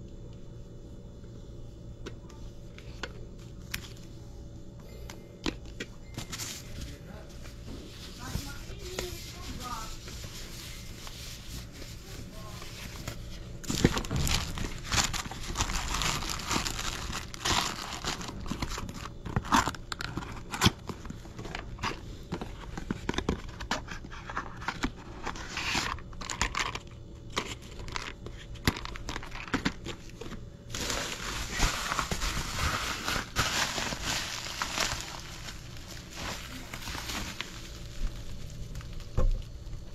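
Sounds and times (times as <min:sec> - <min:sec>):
packaging crinkling and rustling: 0:05.5 - 0:39.9.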